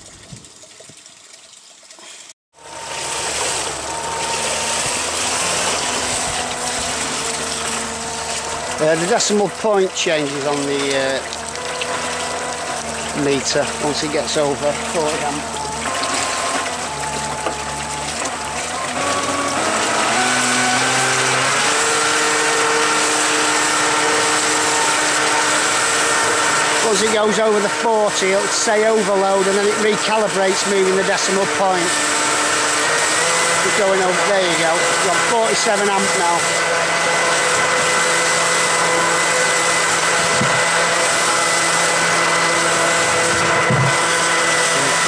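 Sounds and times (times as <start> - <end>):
churning frothing water hiss: 2.0 - 45.0
electric motor whine: 2.6 - 45.0.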